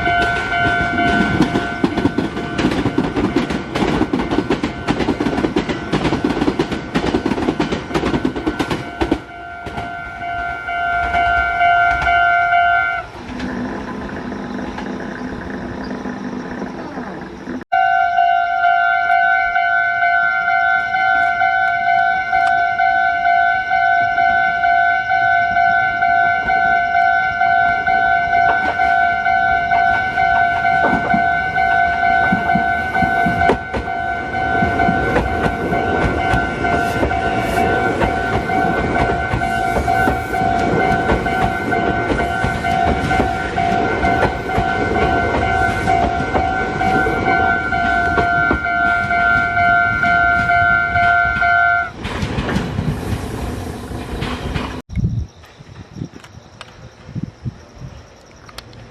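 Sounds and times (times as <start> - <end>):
level-crossing warning bell: 0.0 - 16.0, 17.6 - 52.0
train running and wheel clatter: 0.0 - 58.9.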